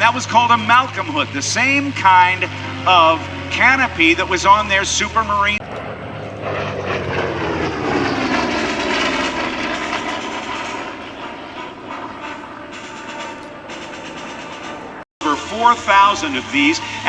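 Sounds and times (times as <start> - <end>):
propeller plane passing: 0.0 - 17.0.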